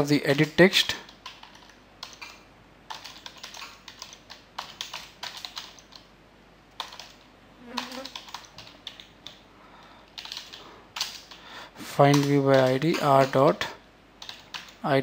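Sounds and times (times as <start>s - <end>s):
keyboard typing: 0.3s - 6.1s, 6.8s - 9.4s, 10.1s - 11.4s, 12.0s - 14.8s.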